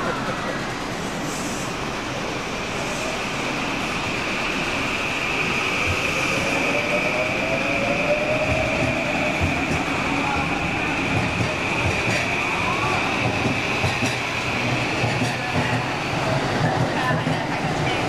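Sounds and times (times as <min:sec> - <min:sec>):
high electric train whine: 0:00.0 - 0:18.0.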